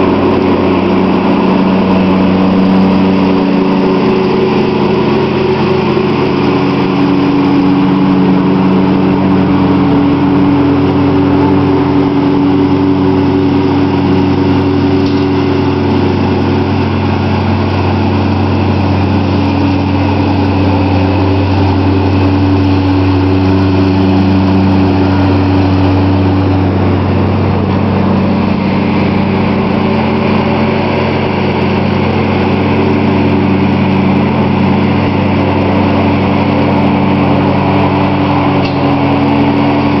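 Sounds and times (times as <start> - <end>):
lawn tractor engine humming: 0.0 - 40.0.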